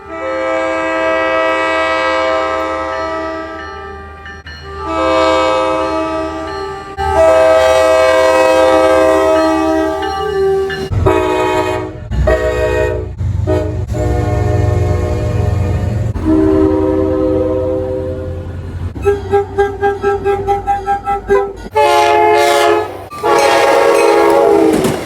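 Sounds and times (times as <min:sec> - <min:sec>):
locomotive air horn blasts: 0:00.0 - 0:24.9
engine and rail rumble: 0:00.0 - 0:25.0.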